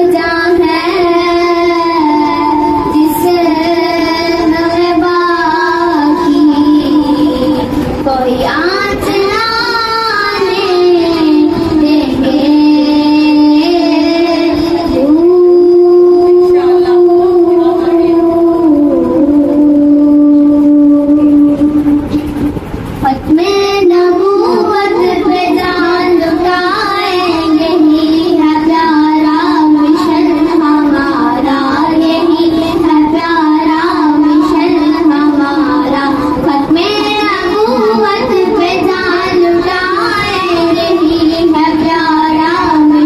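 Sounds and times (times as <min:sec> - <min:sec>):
girl singing devotional song: 0:00.0 - 0:43.0.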